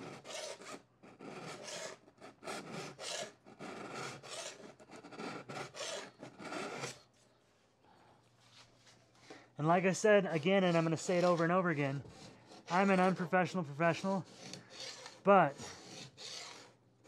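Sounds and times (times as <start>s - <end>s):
hand file rasping on steel edge: 0.0s - 7.0s, 9.9s - 16.8s.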